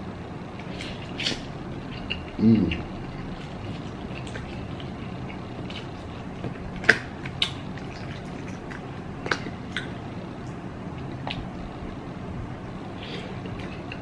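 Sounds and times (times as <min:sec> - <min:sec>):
wet chewing of noodles: 0:00.6 - 0:11.7, 0:12.7 - 0:14.0.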